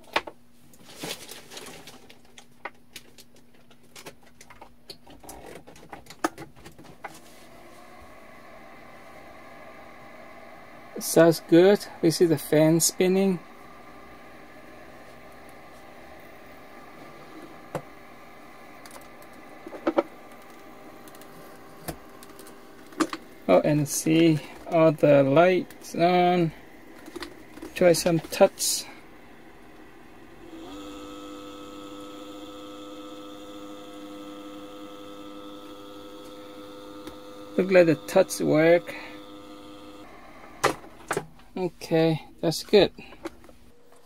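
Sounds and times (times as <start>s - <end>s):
faint steady hum: 0.1s - 44.0s.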